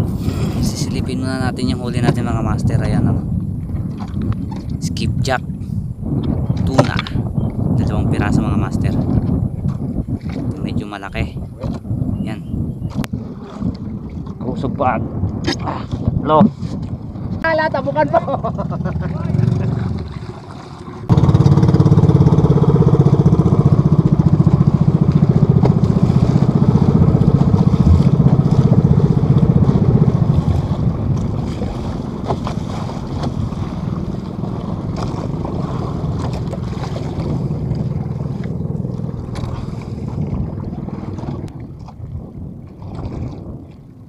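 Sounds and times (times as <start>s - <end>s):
boat engine rumbling: 0.0s - 44.0s
water noise: 0.0s - 44.0s
wind noise: 0.0s - 44.0s.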